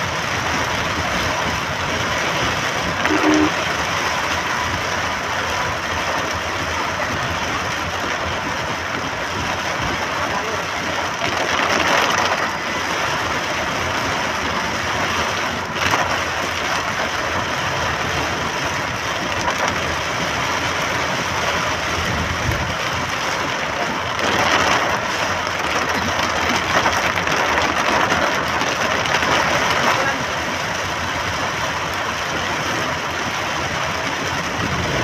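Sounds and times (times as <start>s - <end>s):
car engine: 0.0s - 35.0s
heavy rain on car: 0.0s - 35.0s
tyres on wet road: 0.0s - 35.0s.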